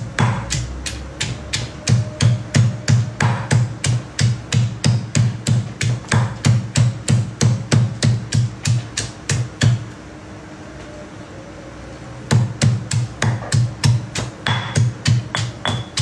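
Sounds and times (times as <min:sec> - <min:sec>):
stone pestle pounding in mortar: 0:00.0 - 0:09.8, 0:12.3 - 0:16.0.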